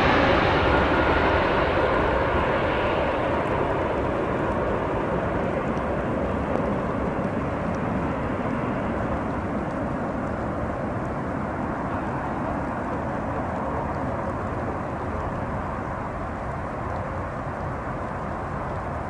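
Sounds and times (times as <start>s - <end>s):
jet airliner engines rushing: 0.0s - 19.0s.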